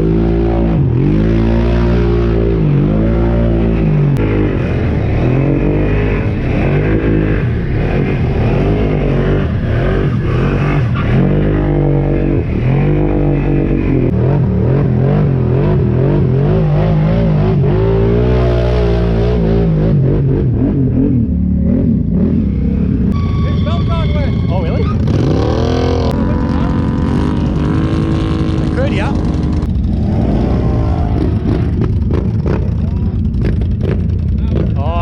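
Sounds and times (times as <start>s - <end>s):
atv engine revving: 0.0s - 35.0s.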